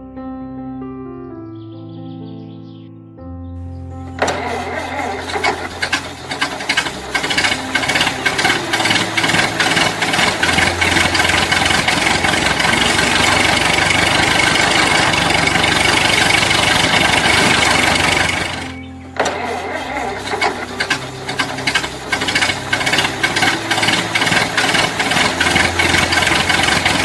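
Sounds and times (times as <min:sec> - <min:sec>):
small water pump motor rattling: 0:04.2 - 0:27.0.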